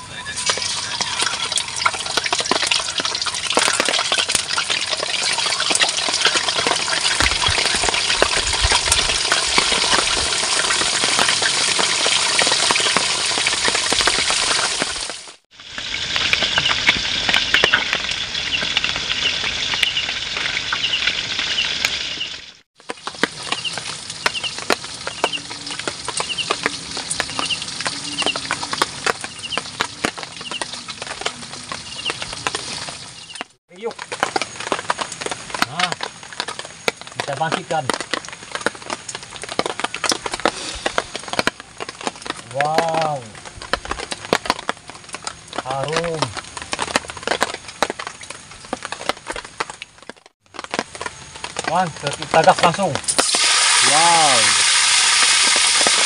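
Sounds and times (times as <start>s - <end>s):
food deep-frying in hot oil: 0.0s - 56.0s.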